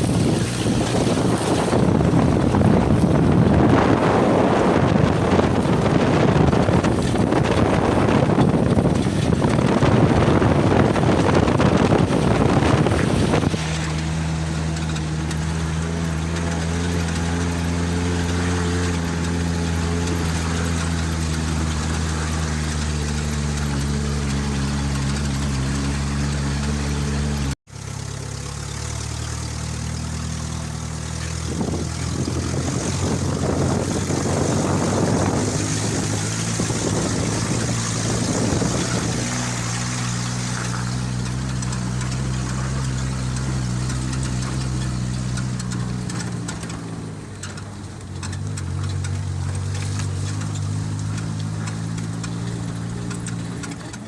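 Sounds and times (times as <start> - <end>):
wind buffeting microphone: 0.0 - 26.9, 30.6 - 47.4
road noise: 0.0 - 54.0
vehicle engine running: 0.0 - 54.0.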